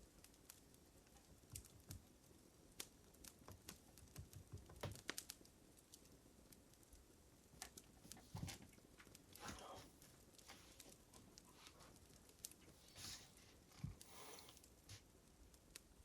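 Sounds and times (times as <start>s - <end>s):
faint fire crackling: 0.0s - 16.0s.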